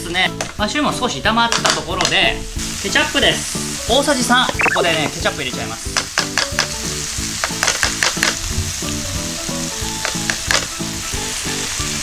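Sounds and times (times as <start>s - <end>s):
light background music: 0.0s - 12.0s
food sizzling in a frying pan: 0.3s - 12.0s.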